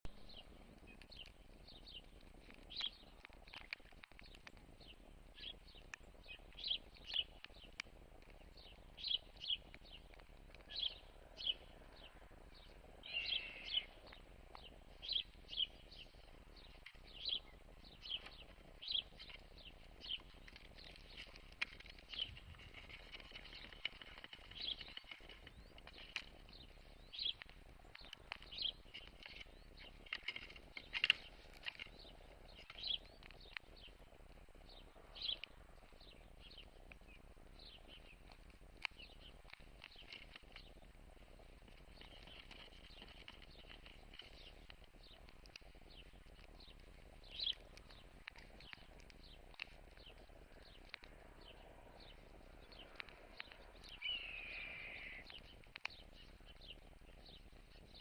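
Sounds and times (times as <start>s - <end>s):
bird chirping: 0.1s - 58.0s.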